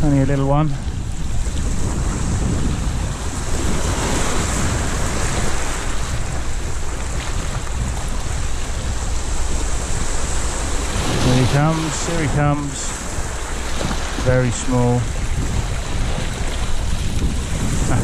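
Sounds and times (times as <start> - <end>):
sea waves washing: 0.0 - 18.0
wind buffeting microphone: 0.0 - 18.0.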